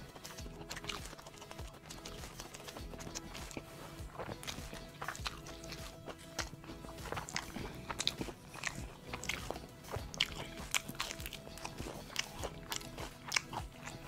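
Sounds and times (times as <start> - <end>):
crunching fried chicken: 0.0 - 14.0.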